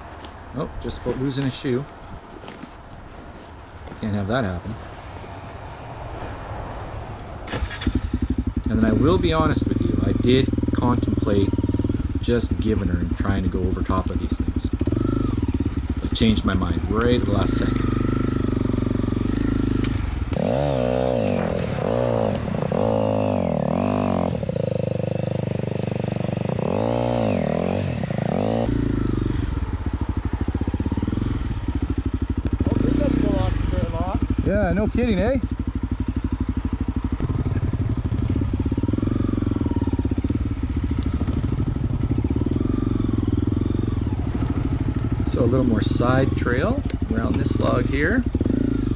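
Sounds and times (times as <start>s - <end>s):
dirt bike engine revving: 7.5s - 48.9s.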